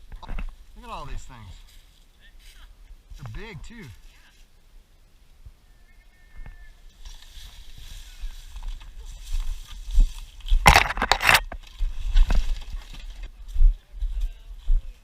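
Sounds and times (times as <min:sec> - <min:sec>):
rustling in dry forest litter: 0:00.0 - 0:15.0.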